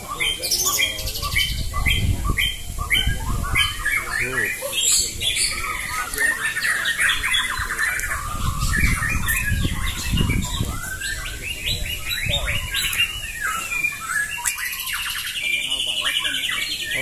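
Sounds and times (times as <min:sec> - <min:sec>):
birds singing chattering and whistling: 0:00.0 - 0:17.0.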